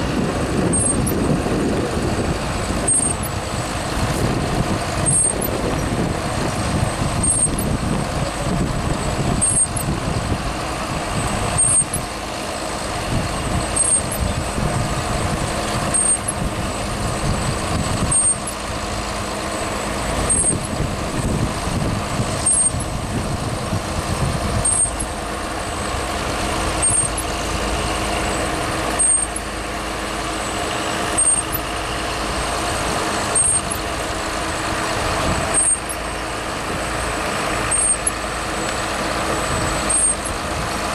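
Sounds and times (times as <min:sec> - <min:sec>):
tractor and harvester running: 0:00.0 - 0:40.9.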